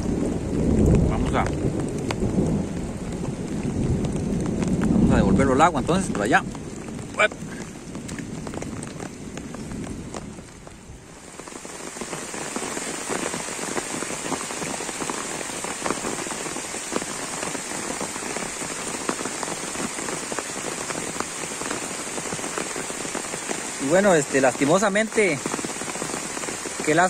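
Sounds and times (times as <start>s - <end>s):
heavy rain on water: 0.0s - 27.0s.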